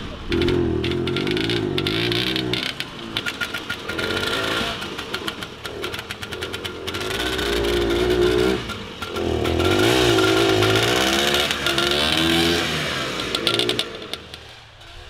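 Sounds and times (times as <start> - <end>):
engine crackling pops: 0.0 - 15.0
snowmobile engine revving: 0.0 - 15.0.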